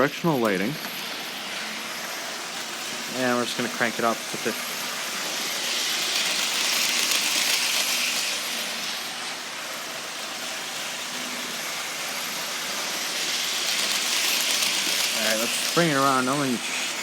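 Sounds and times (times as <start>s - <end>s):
model train motor whir: 0.0s - 17.0s
wheel hiss on rails: 0.0s - 17.0s.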